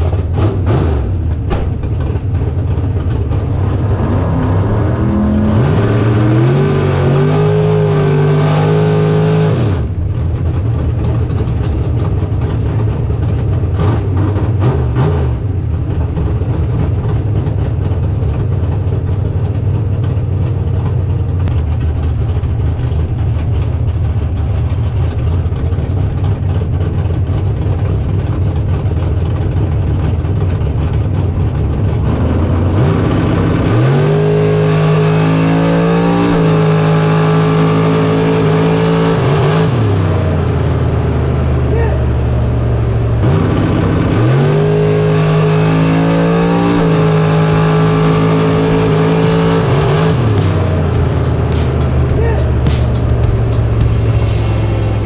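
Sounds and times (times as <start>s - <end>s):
dragster engine running: 0.0s - 55.0s.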